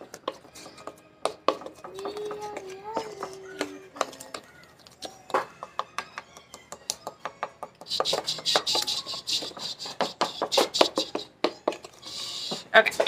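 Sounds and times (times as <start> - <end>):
spoon stirring batter in bowl: 0.0 - 13.0.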